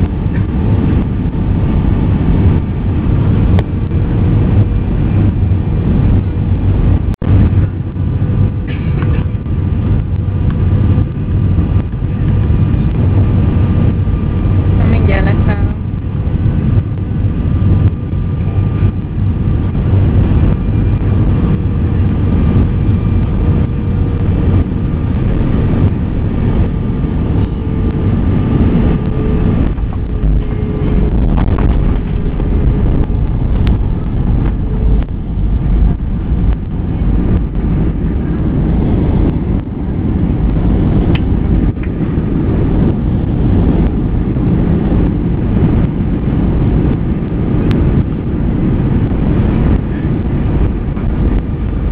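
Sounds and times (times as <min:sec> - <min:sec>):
faint steady whine: 0:00.0 - 0:51.9
jet engine and airflow rush: 0:00.0 - 0:51.9.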